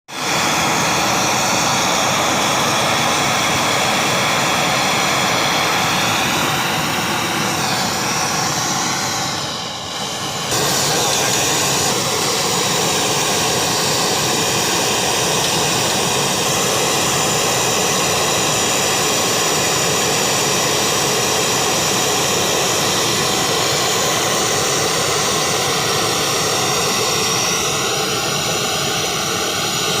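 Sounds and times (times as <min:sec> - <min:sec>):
welding torch flame roaring: 0:00.1 - 0:30.0.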